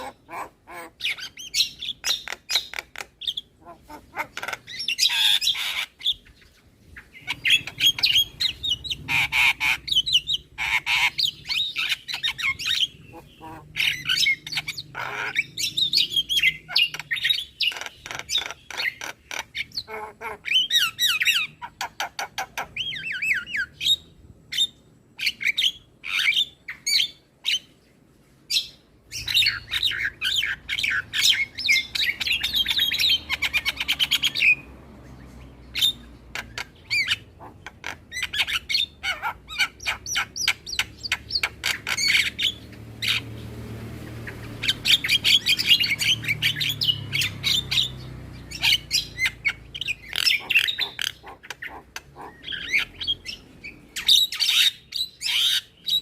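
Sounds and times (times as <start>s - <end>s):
birds chattering and squawking: 0.0s - 56.0s.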